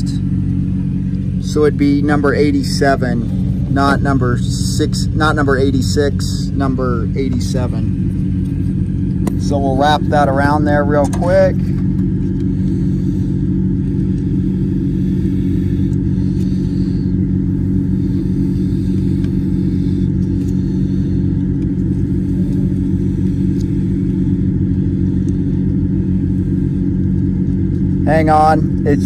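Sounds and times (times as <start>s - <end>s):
idling engine hum: 0.0s - 29.0s.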